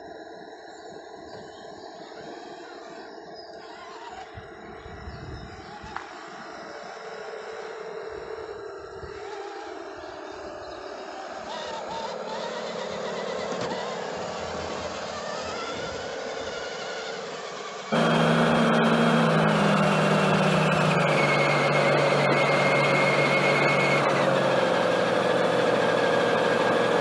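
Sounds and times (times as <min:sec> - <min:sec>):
model truck motor whine: 0:00.0 - 0:27.0.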